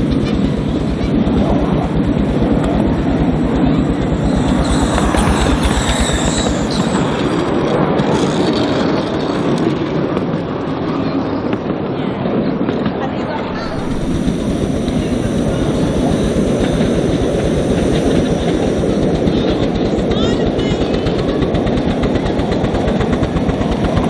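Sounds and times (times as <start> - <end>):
steam locomotive exhaust beats: 0.0 - 9.6, 13.5 - 24.0
carriages rumbling over rails: 0.0 - 24.0.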